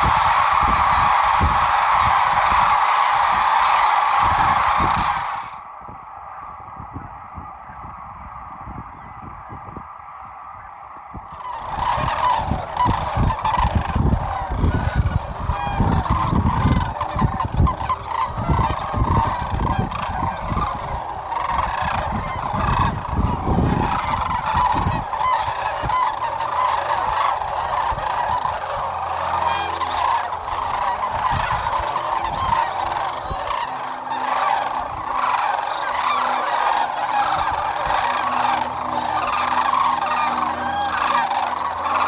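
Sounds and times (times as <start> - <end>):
cranes calling: 0.0 - 5.7, 11.2 - 42.0
low gusty rumble: 0.0 - 42.0.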